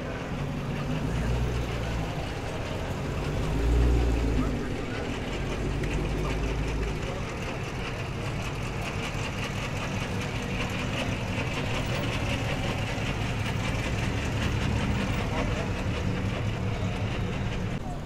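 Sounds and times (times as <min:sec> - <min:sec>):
car engines rumbling: 0:00.0 - 0:18.0.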